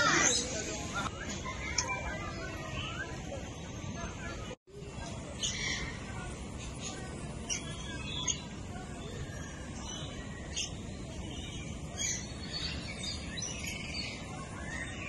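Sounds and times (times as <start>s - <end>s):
birds chirping: 0.0s - 15.0s
low background noise: 0.0s - 15.0s.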